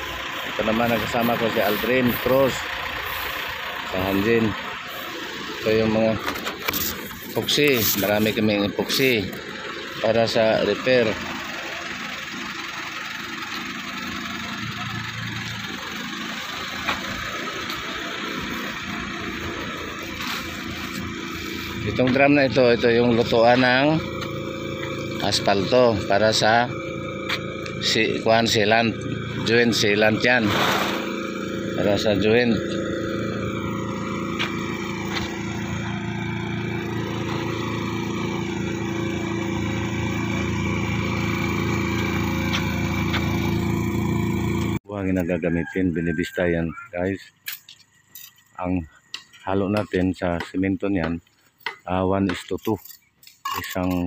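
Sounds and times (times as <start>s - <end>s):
truck engine idling: 0.0s - 53.6s.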